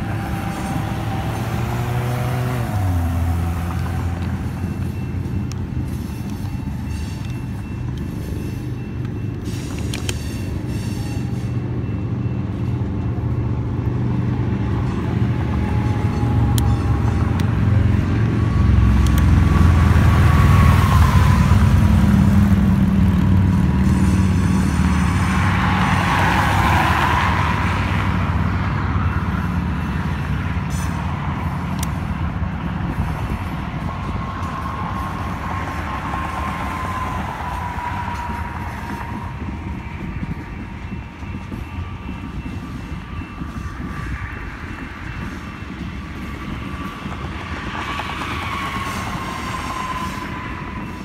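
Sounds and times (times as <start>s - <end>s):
motorcycles passing: 0.0s - 8.7s, 12.5s - 51.0s
train wheels rumbling on rail: 0.0s - 51.0s.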